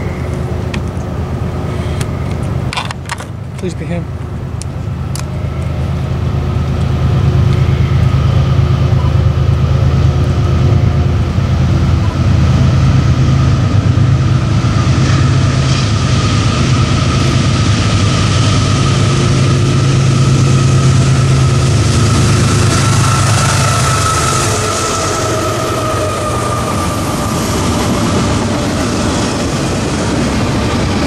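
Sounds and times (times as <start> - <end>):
diesel locomotive rumble: 0.0 - 31.0.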